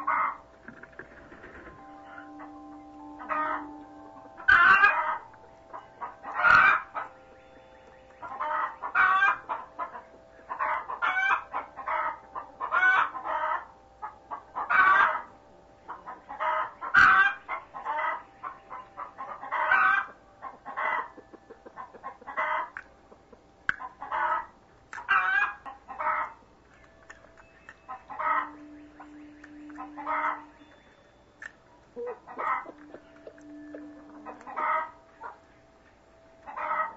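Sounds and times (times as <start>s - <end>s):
chickens clucking: 0.0s - 35.7s, 36.4s - 36.9s.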